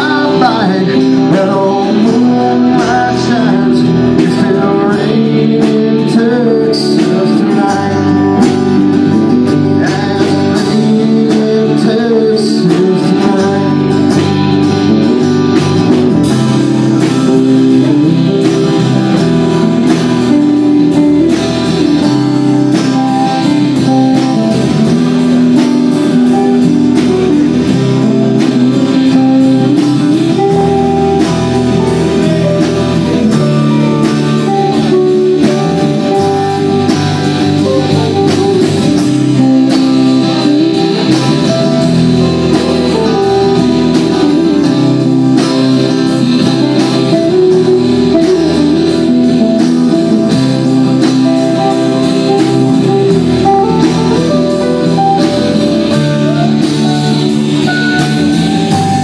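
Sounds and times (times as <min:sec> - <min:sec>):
drum kit steady beat: 0:00.0 - 0:59.0
guitars: 0:00.0 - 0:59.0.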